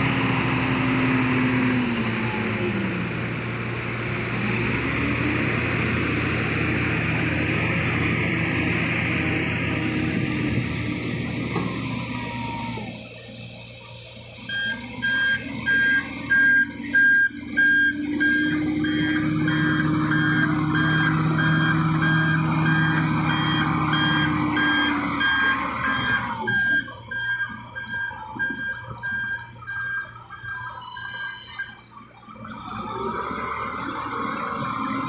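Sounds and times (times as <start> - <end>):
truck engine revving: 0.0 - 35.0
truck reversing alarm beeping: 0.0 - 35.0.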